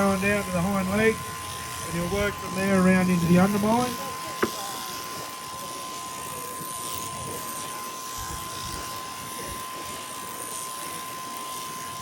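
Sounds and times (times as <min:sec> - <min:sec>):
electric shears whining: 0:00.0 - 0:12.0.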